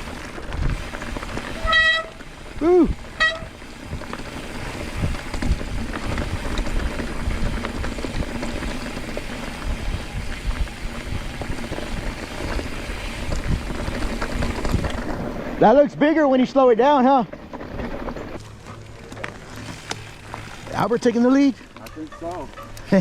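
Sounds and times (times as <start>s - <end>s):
bike knocking and rattling: 0.0s - 23.0s
bike tyres rumbling on dirt: 0.0s - 23.0s.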